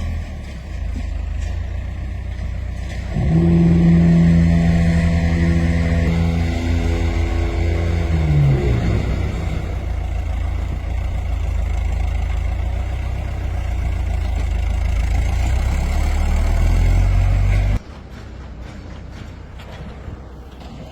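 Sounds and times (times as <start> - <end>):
machinery humming: 0.6 - 20.9.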